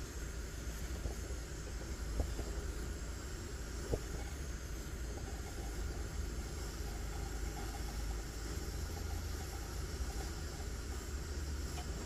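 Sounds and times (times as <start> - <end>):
stove burner roaring: 0.0 - 12.0.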